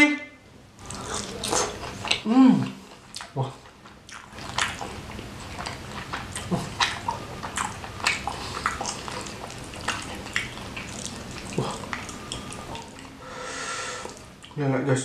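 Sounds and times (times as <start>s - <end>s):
person chewing with wet smacks: 0.8s - 13.2s, 14.0s - 14.6s.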